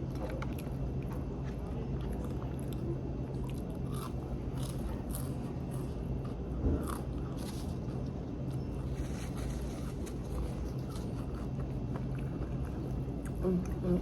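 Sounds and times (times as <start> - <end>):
chewing and crunching fried food: 0.0 - 14.0
steady low hum: 0.0 - 14.0.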